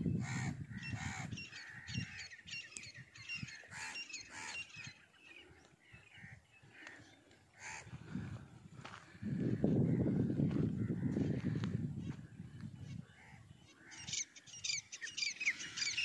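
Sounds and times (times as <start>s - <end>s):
small birds chirping: 0.0s - 8.0s, 9.1s - 16.0s.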